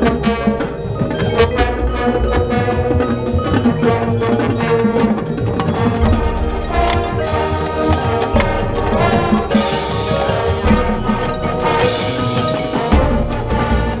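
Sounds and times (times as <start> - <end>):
drum strikes: 0.0 - 14.0
mallet percussion: 0.0 - 14.0
marching band playing: 0.0 - 14.0.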